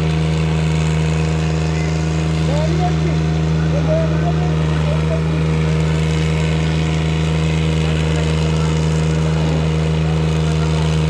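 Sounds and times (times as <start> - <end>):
tractor engines under heavy load: 0.0 - 11.0.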